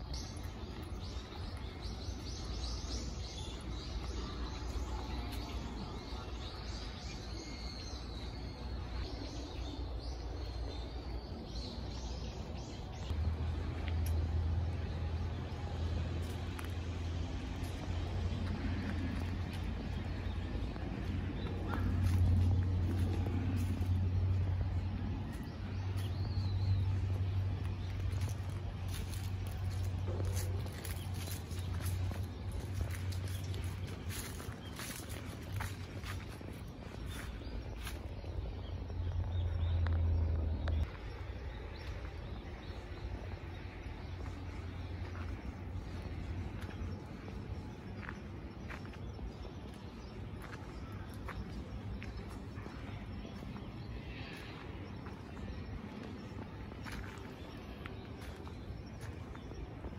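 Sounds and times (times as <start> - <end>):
distant city traffic rumble: 0.0 - 59.9.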